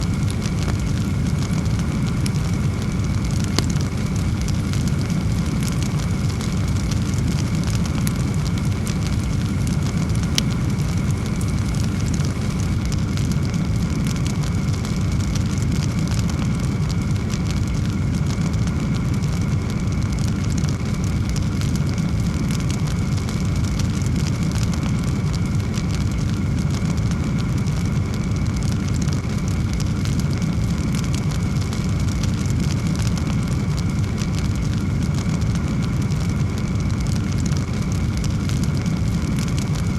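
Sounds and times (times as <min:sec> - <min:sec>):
firewood crackling and popping: 0:00.0 - 0:39.9
low roar of flame: 0:00.0 - 0:39.9.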